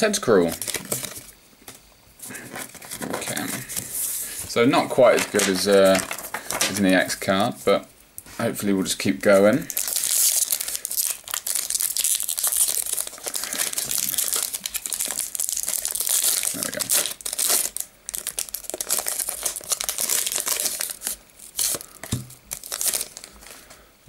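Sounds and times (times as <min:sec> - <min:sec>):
plastic wrapper crinkling: 0:00.3 - 0:01.4, 0:02.3 - 0:03.9, 0:04.9 - 0:07.2, 0:09.5 - 0:23.8
rustling and handling: 0:00.4 - 0:08.6, 0:09.3 - 0:23.9.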